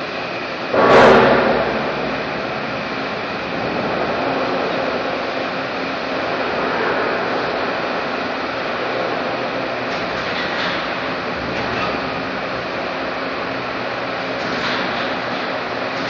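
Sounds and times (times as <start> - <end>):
low hum: 0.0 - 15.0
industrial machinery din: 0.0 - 16.0.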